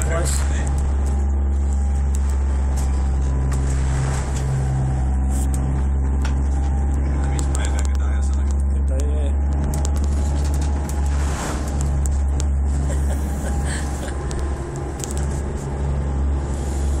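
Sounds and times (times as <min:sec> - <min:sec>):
boat engines droning: 0:00.0 - 0:17.0
water splashing against hull: 0:00.0 - 0:17.0.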